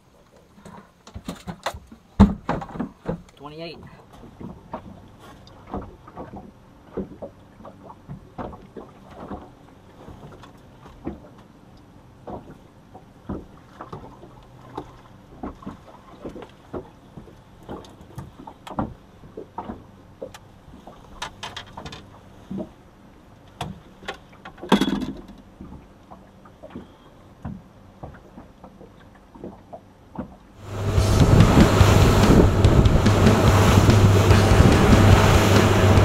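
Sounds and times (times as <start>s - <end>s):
small waves slapping boat hull: 0.0s - 36.0s.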